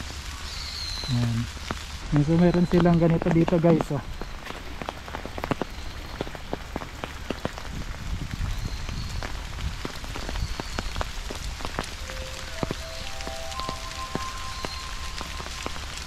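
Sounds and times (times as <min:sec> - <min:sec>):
raindrops hitting an umbrella: 0:00.0 - 0:16.0.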